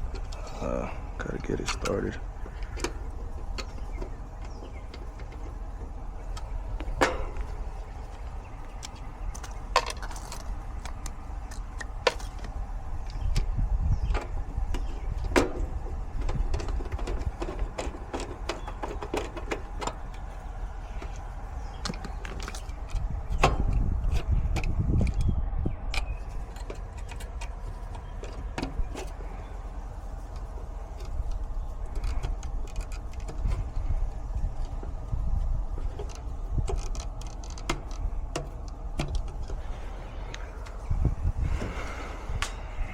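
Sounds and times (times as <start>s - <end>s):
low rumbling: 0.0s - 42.9s.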